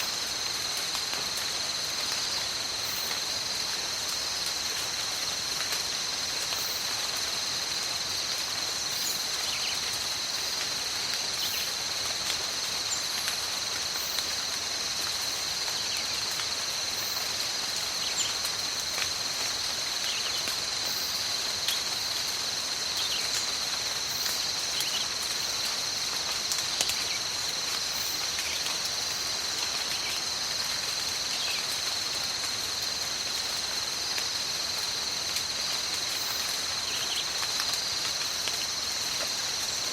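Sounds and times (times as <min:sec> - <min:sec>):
high-pitched insect chorus: 0:00.0 - 0:39.9
steady rain: 0:00.0 - 0:39.9.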